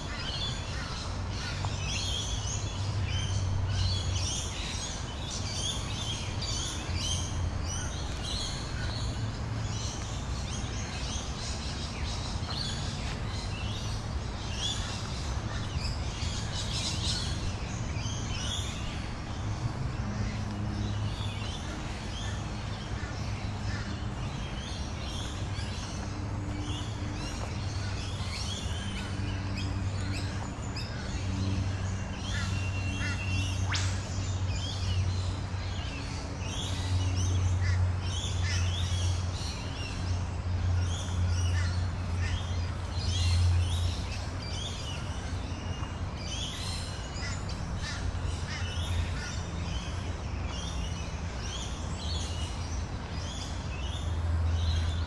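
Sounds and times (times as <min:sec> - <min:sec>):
birds calling and chirping: 0:00.0 - 0:55.0.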